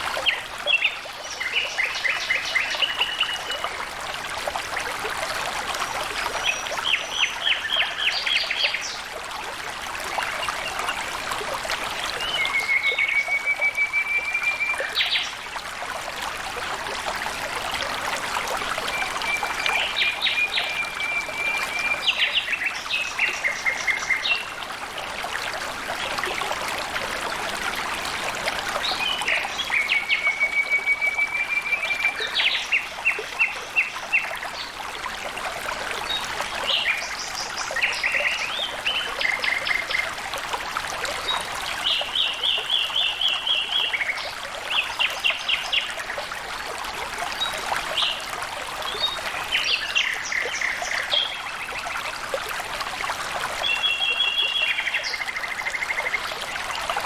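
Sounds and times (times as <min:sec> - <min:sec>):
water flowing over stones: 0:00.0 - 0:57.0.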